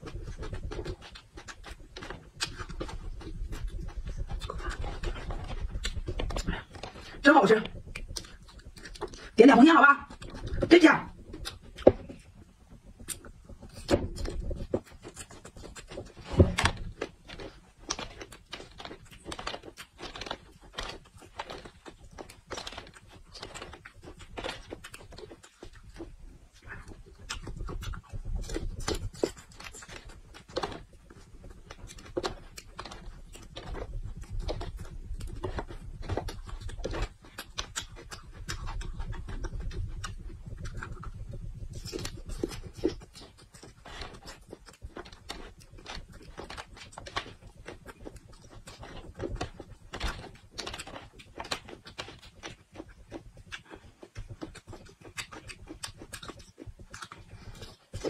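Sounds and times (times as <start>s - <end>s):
crunching and chewing peppers: 0.0s - 58.0s.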